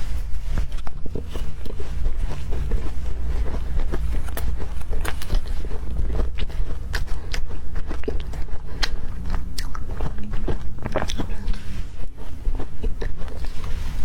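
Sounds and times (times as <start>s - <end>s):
chewing crunchy candy and ice: 0.0s - 14.0s.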